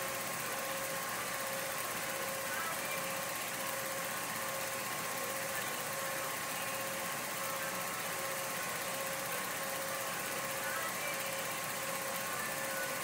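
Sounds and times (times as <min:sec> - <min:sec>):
constant hum: 0:00.0 - 0:13.0
film projector whirring: 0:00.0 - 0:13.0.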